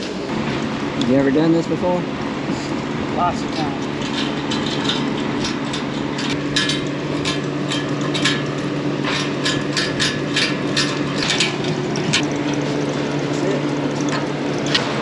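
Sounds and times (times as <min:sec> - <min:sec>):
steady engine hum: 0:00.0 - 0:15.0.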